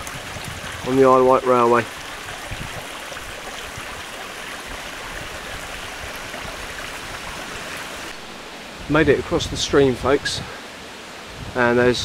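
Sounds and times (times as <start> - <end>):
stream flowing: 0.0 - 11.8.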